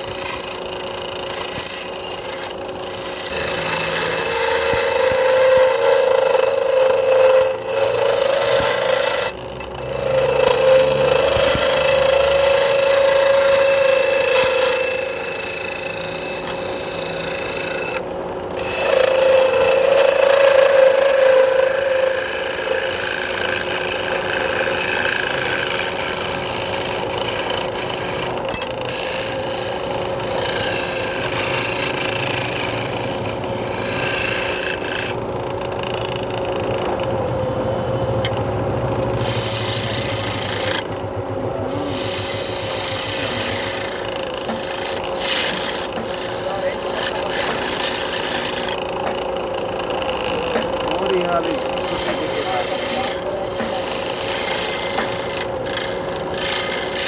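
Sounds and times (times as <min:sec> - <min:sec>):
lathe motor hum: 0:00.0 - 0:57.0
tool scraping spinning wood: 0:00.0 - 0:57.0.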